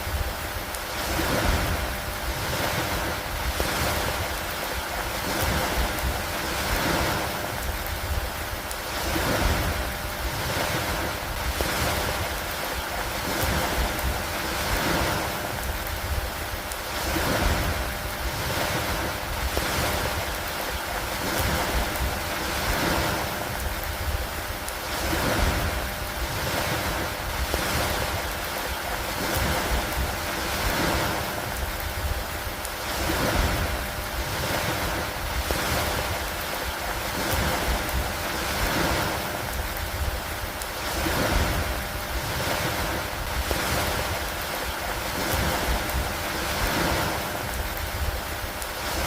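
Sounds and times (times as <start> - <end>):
rain on lake water: 0.0 - 49.0
wind: 0.0 - 49.0.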